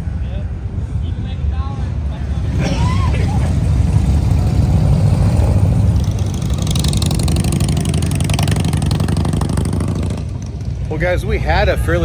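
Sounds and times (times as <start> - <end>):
motorcycle engine running: 2.1 - 12.0.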